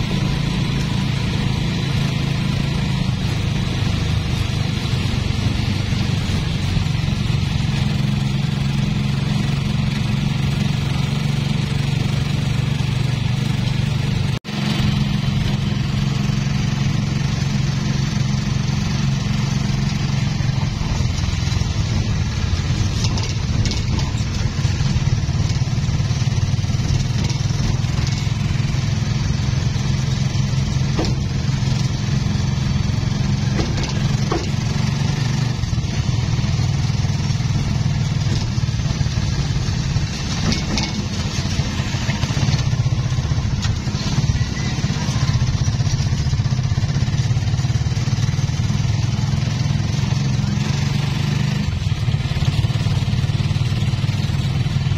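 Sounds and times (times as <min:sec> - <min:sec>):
vehicle engine drone: 0:00.0 - 0:54.9
wind and tyre hiss: 0:00.0 - 0:54.9.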